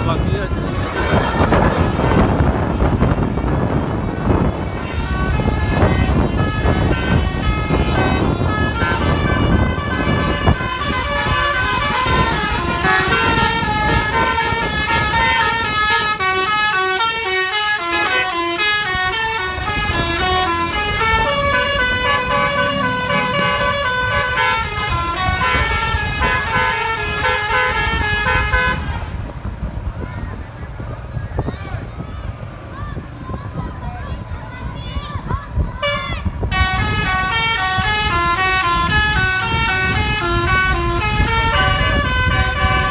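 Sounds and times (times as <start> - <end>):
multi-tone bus horns: 0.0 - 29.2, 35.8 - 42.9
bus engine rumble: 0.0 - 42.9.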